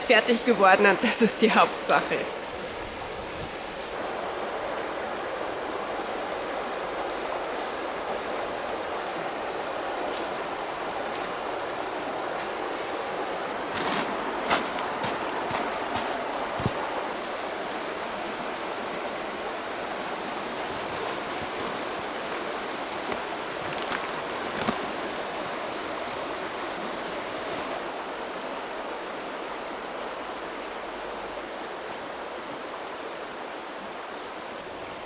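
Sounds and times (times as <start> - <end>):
river water babbling: 0.0 - 35.0.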